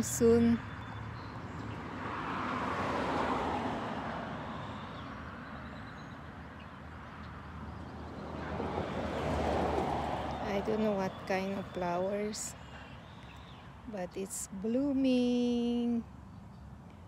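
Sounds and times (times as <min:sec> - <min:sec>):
vehicle passing by: 0:00.0 - 0:13.8.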